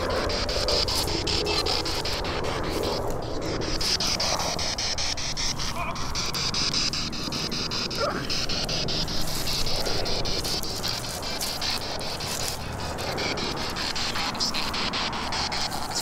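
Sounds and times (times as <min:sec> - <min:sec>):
insect trilling: 0:00.0 - 0:16.0.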